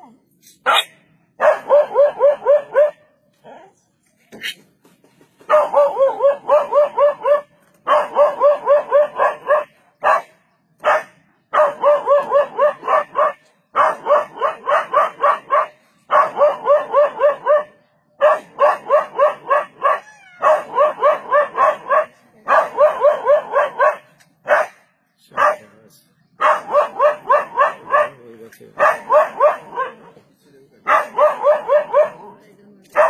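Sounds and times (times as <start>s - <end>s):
dog barking rapidly: 0.6s - 3.0s, 5.5s - 25.7s, 26.4s - 28.2s, 28.8s - 30.1s, 30.8s - 32.3s.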